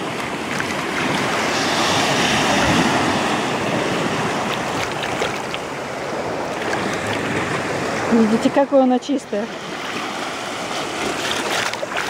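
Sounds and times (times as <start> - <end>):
small waves washing over sand: 0.0 - 12.0.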